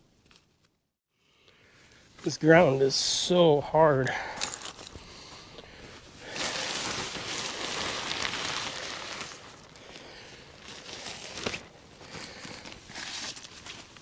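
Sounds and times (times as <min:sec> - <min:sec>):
rustling and handling noise: 0:01.8 - 0:14.0.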